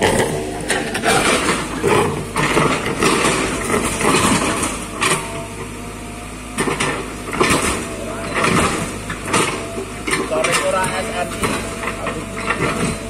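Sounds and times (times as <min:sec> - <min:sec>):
excavator diesel engine: 0:00.0 - 0:13.0.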